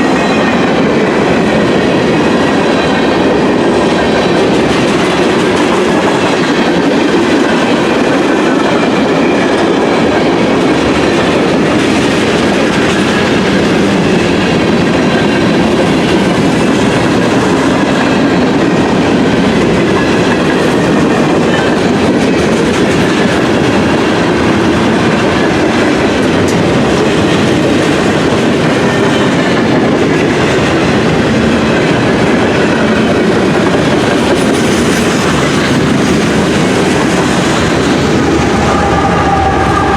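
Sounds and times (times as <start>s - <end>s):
train wheels rumbling over rails: 0.0s - 39.9s.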